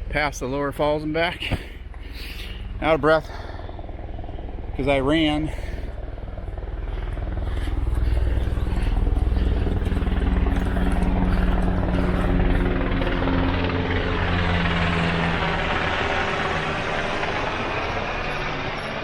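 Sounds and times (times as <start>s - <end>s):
helicopter rotor droning: 0.0s - 19.0s.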